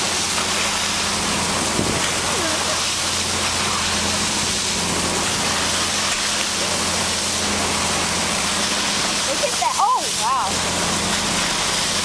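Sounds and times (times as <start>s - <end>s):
boat engine humming: 0.0s - 12.0s
water rushing along hull: 0.0s - 12.0s.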